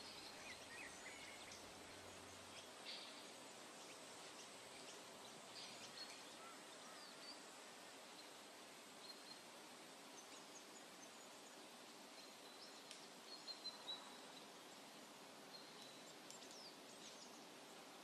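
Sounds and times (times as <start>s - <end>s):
outdoor background hiss: 0.0s - 18.0s
small birds chirping: 0.0s - 18.0s.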